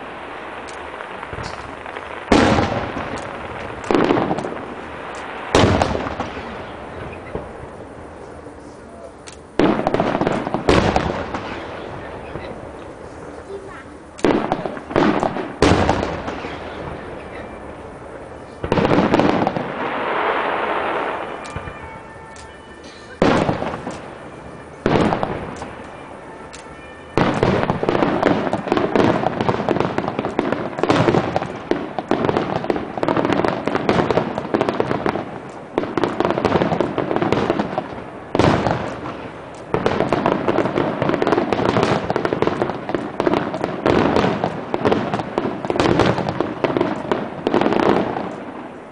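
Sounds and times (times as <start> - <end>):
firework booms echoing: 0.0 - 48.9
fireworks crackling: 0.0 - 48.9.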